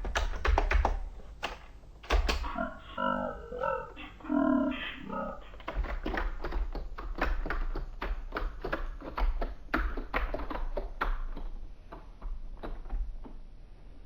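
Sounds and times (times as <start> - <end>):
keyboard keys typing: 0.0 - 4.0, 4.7 - 12.9.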